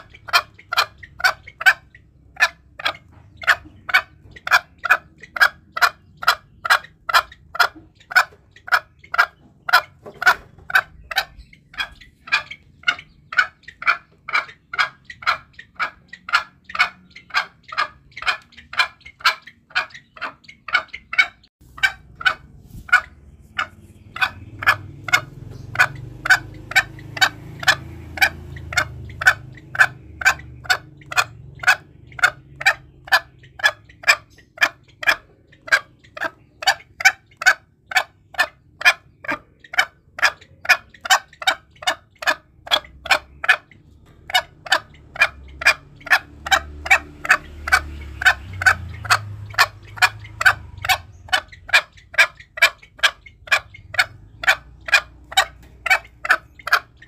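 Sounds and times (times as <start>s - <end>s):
junglefowl clucking calls: 0.0s - 57.0s
low background rumble: 0.0s - 57.0s.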